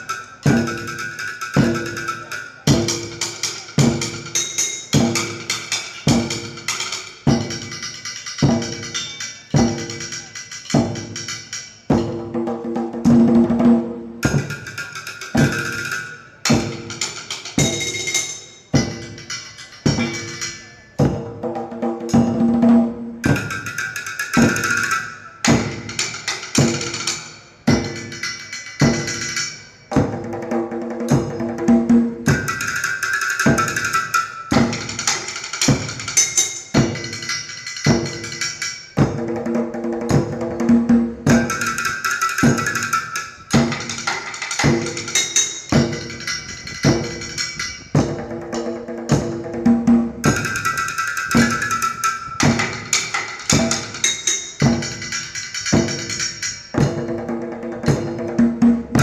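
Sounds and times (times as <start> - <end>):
hand drum: 0.0 - 59.0
metal trays and pots beaten: 0.0 - 59.0.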